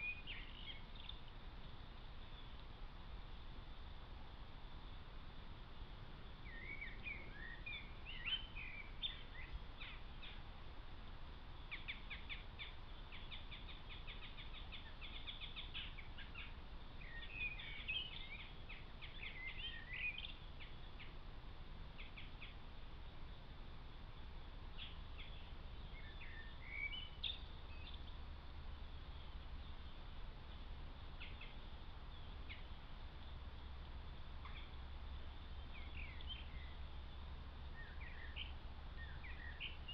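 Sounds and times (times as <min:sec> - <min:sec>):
low background noise: 0:00.0 - 0:39.9
songbirds chirping and trilling: 0:00.0 - 0:39.9.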